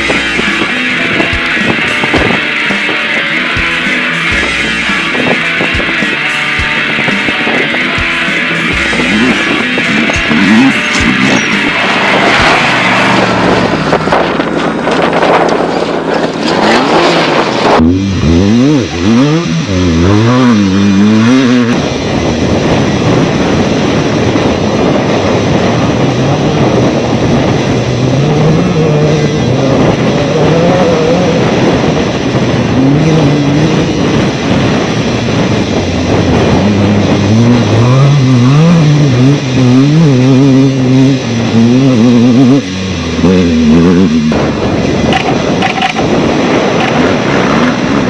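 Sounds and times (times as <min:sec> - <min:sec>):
race car engine running hard: 0:00.0 - 0:48.0
steady loud rushing noise: 0:00.0 - 0:48.0.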